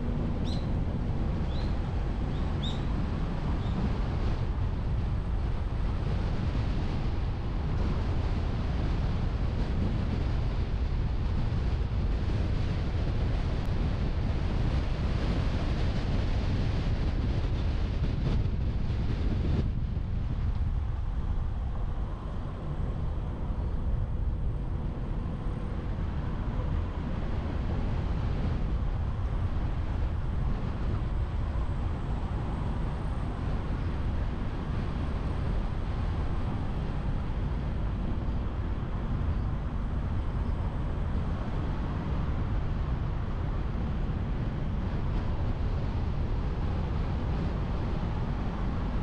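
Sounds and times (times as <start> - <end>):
car road rumble: 0.0 - 49.0
wind on microphone: 0.0 - 49.0.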